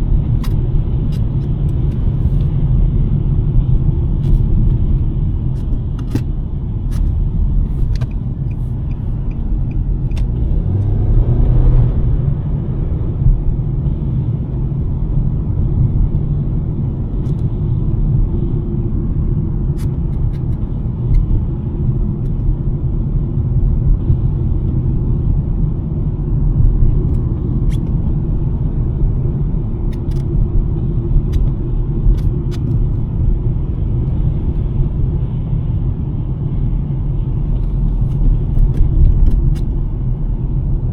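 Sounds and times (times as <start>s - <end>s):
car engine: 0.0s - 40.9s
road and tyre rumble: 0.0s - 40.9s.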